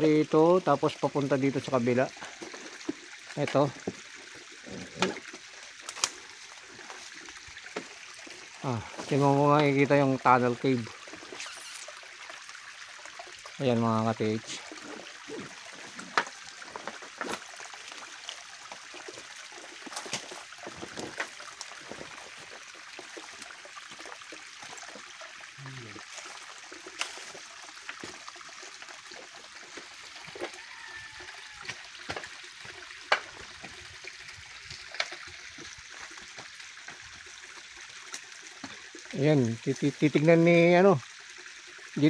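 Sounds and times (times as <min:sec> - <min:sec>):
water trickling down rock: 0:00.0 - 0:42.0.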